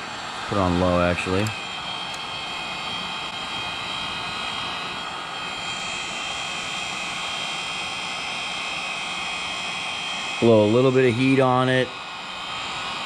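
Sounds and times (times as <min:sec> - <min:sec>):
heat gun fan whir: 0:00.0 - 0:13.0.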